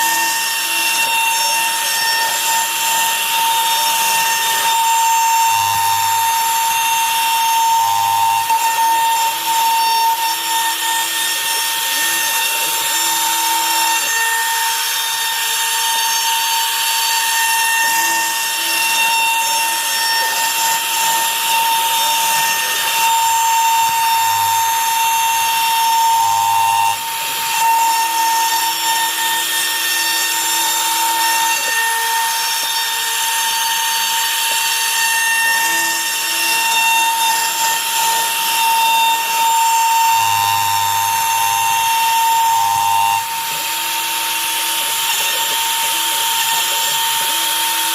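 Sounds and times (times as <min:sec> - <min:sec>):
bit rasping through wood: 0:00.0 - 0:47.9
router spindle high whine: 0:00.0 - 0:47.9.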